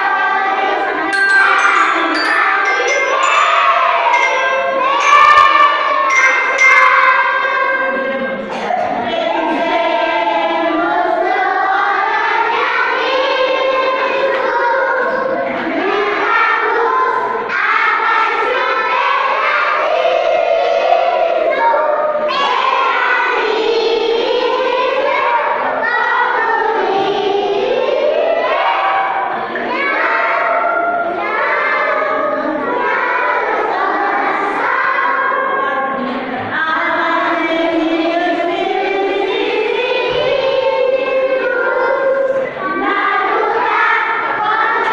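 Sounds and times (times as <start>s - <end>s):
children singing together: 0.0s - 44.9s.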